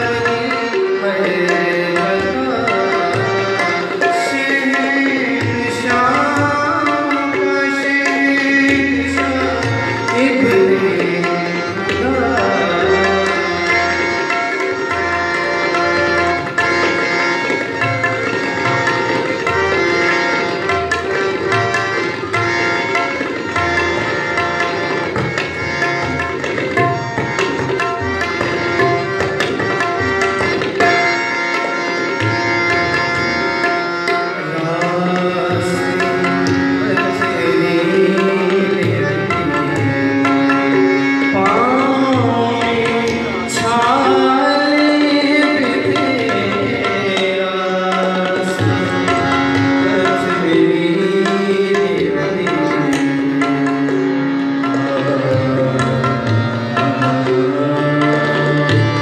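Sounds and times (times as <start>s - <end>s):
sustained melodic accompaniment: 0.0s - 59.0s
tabla drumming: 0.0s - 59.0s.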